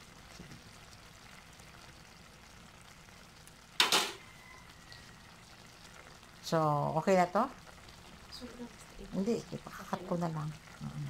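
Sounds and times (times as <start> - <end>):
sauce simmering in a pan: 0.0 - 11.0.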